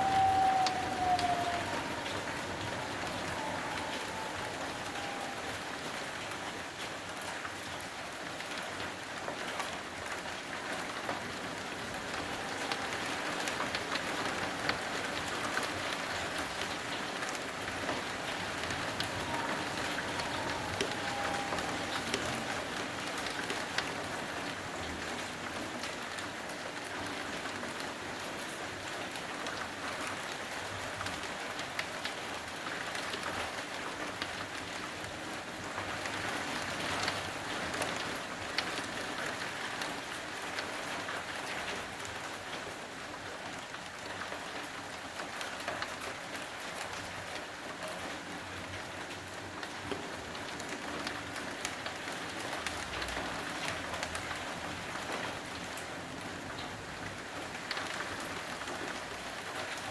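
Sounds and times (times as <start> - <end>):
heavy rain: 0.0 - 59.9
raindrops ticking close by: 0.0 - 59.9.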